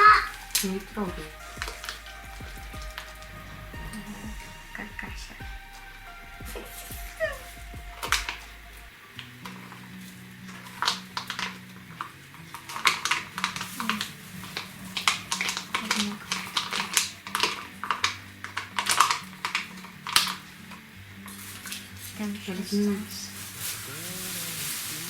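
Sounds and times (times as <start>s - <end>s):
faint background music: 0.0s - 25.0s.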